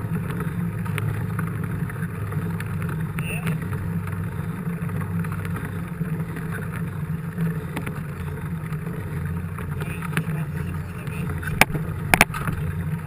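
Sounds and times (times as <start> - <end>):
mountain bike rolling rumble: 0.0 - 13.0.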